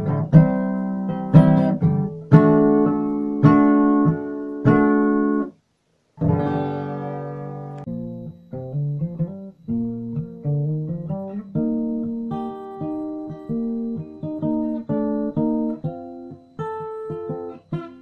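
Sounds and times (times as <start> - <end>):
acoustic guitar playing: 0.0 - 5.6, 6.2 - 18.0.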